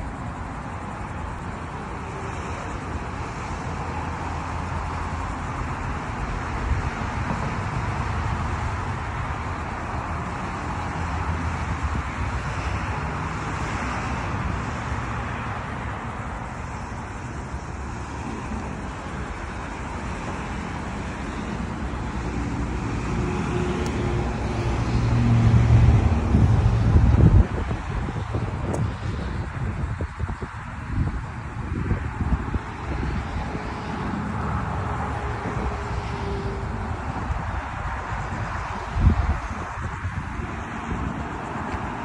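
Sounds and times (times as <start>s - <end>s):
road traffic noise: 0.0s - 42.0s
vehicle engine hum: 0.0s - 42.0s.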